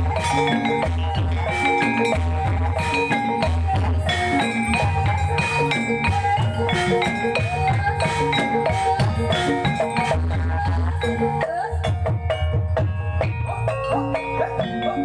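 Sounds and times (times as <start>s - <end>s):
drum strokes: 0.0s - 15.0s
mallet-struck keyed instruments: 0.0s - 15.0s.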